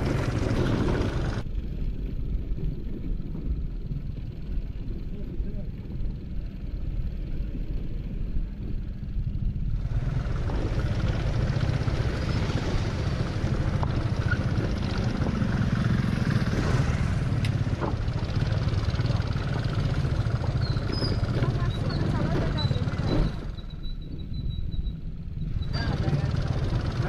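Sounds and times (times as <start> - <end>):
rushing wind and tyres: 0.0 - 27.0
scooter engine drone: 0.0 - 27.0.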